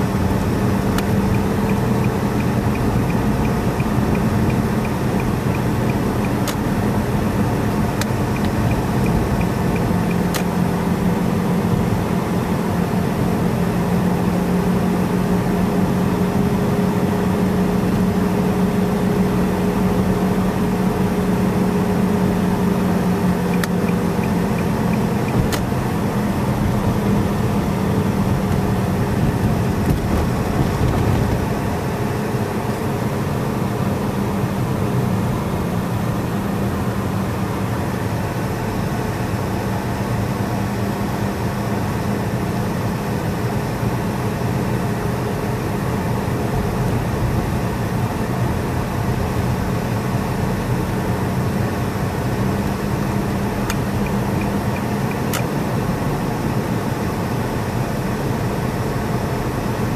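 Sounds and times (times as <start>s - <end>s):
car engine hum: 0.0s - 59.9s
road and tyre noise: 0.0s - 59.9s.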